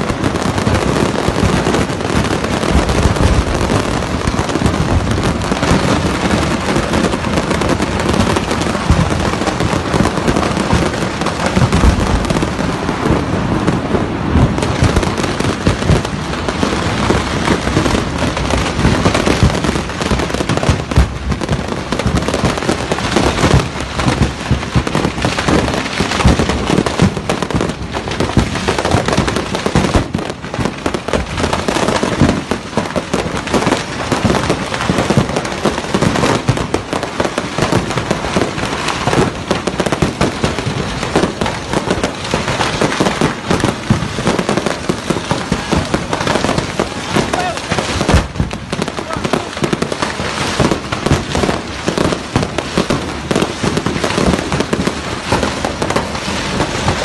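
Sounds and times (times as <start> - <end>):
fireworks crackling and popping: 0.0 - 57.0
loud fireworks bangs: 0.0 - 57.0.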